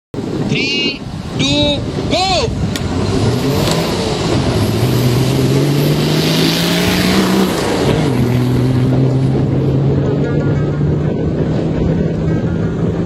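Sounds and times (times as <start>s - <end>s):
car engine accelerating hard: 1.8s - 13.0s.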